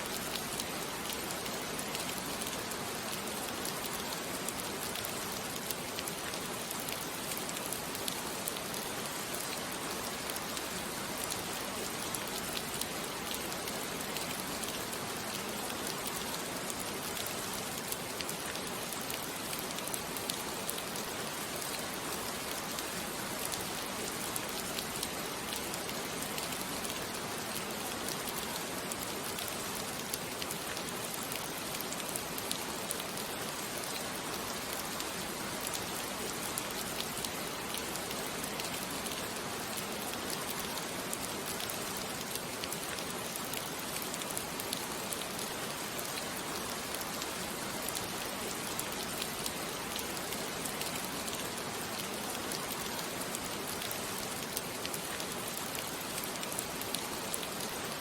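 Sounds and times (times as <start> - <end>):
steady rain hiss: 0.0 - 58.0
pattering raindrops: 0.1 - 58.0.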